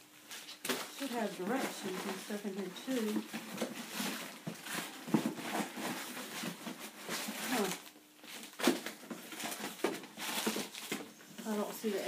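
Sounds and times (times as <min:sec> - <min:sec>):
packaging rustling and crinkling: 0:00.2 - 0:12.0.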